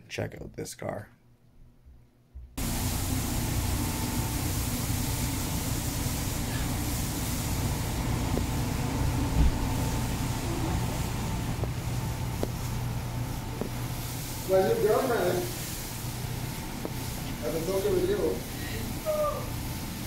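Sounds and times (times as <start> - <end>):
shop equipment rushing hum: 2.6 - 20.0.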